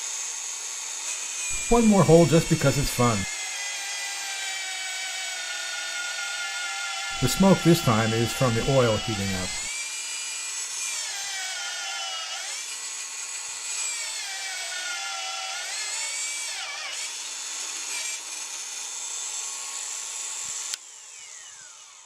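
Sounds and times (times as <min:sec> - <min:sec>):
magnetic drill whining through steel: 0:00.0 - 0:22.0.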